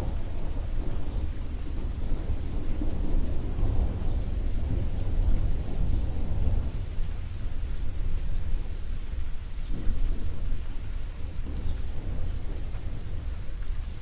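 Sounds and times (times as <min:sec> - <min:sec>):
deep rumble of thunder: 0:00.0 - 0:14.0
steady rain: 0:00.0 - 0:14.0.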